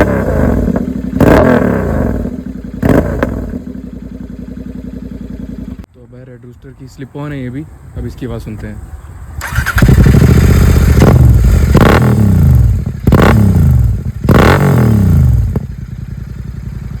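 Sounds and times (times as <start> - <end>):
motorcycle engine revving: 0.0 - 5.9, 9.2 - 17.0.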